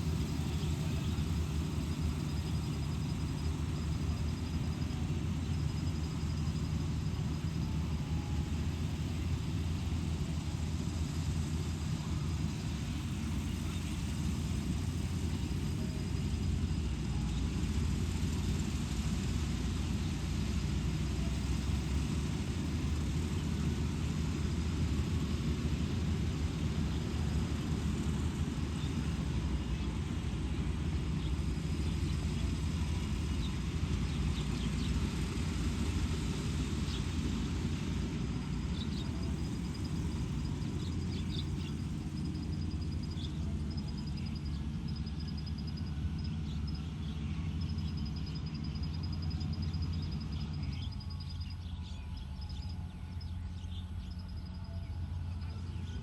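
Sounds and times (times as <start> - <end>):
machinery noise: 0.0 - 55.7
combine harvester engine rumble: 0.0 - 56.0.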